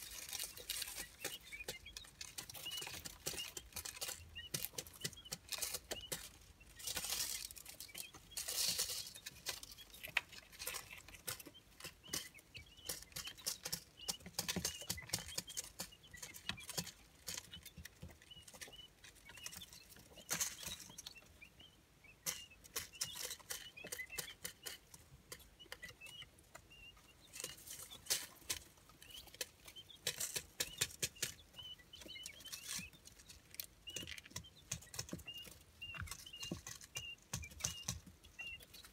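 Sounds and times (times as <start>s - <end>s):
chicks peeping: 0.0s - 38.9s
chicks scratching in paper bedding: 0.0s - 38.9s.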